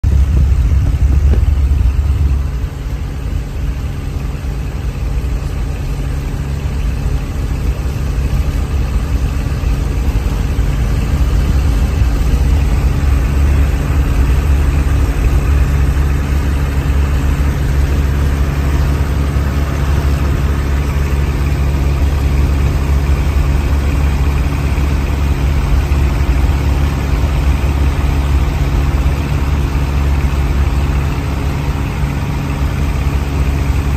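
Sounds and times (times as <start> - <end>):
airplane engine and propeller drone: 0.0 - 33.9.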